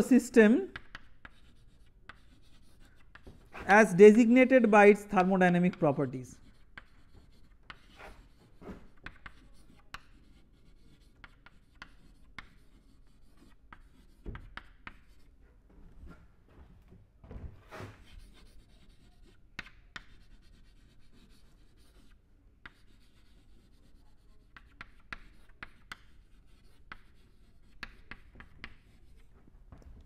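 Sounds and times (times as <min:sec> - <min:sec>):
chalk writing on blackboard: 0:00.4 - 0:15.4, 0:17.7 - 0:29.3.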